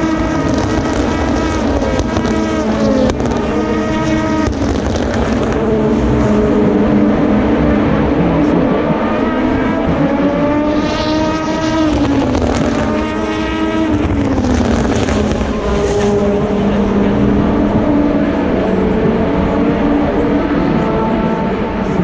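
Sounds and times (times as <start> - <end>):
race car passing with rising pitch: 0.0 - 22.0
race cars drone: 0.0 - 22.0.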